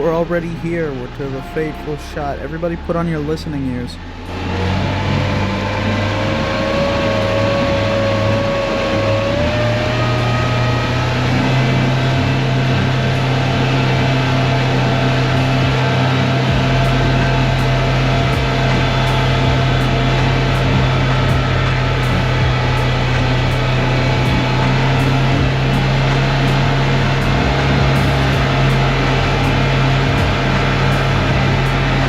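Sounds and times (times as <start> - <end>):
outboard motor humming and whining: 0.0 - 32.0.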